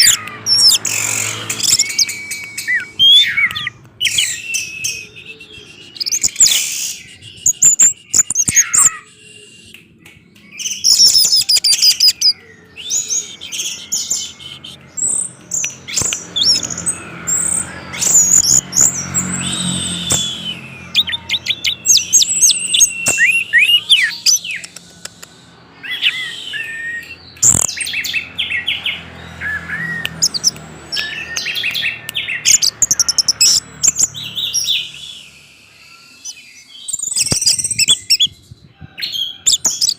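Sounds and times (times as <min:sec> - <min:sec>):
thrush singing whistled phrases: 0:00.0 - 0:38.4.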